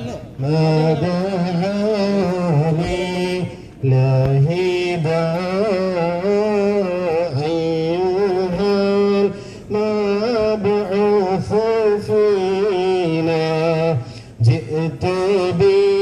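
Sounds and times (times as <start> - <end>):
person singing slow melody: 0.0 - 16.0.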